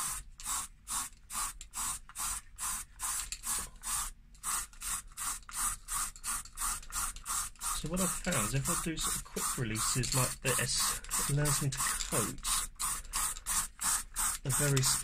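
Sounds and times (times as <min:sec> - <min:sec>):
spray paint can hissing in bursts: 0:00.0 - 0:15.0.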